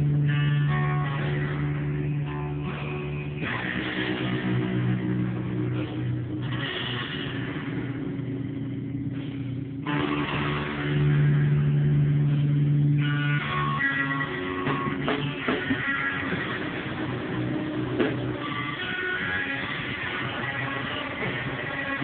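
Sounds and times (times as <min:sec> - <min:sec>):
bass guitar: 0:00.0 - 0:22.0
electric guitar: 0:00.0 - 0:22.0
live band playing: 0:00.0 - 0:22.0.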